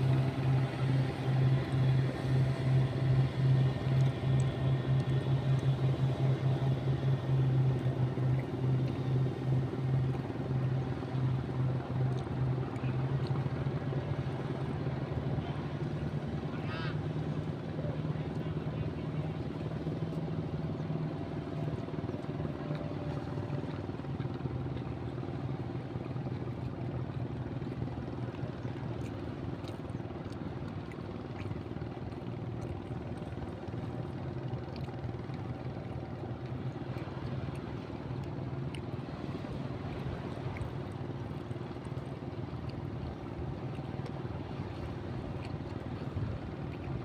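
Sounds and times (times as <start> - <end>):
boat engine droning: 0.0 - 47.0.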